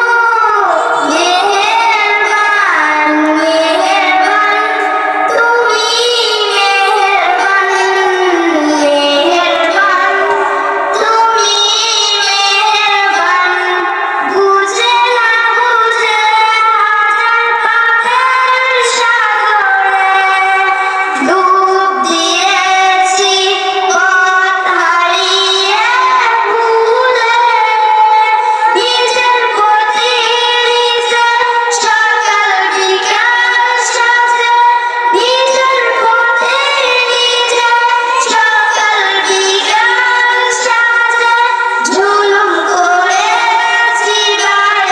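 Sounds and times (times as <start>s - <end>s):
girl singing: 0.0s - 44.9s.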